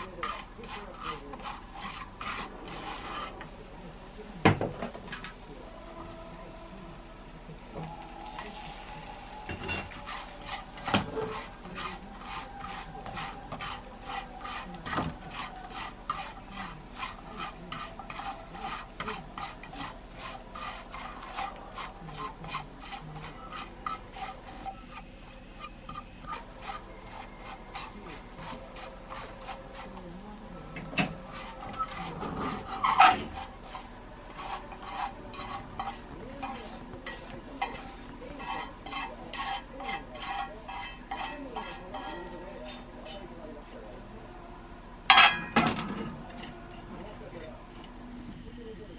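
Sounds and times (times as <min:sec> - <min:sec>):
dried fish stirred in a pan: 0:00.0 - 0:03.5, 0:07.8 - 0:43.8.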